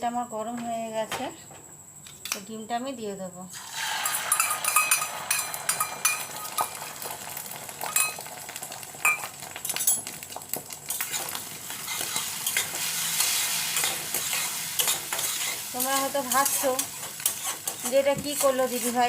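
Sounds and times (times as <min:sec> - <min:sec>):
egg sizzling in hot oil: 0:03.5 - 0:19.0.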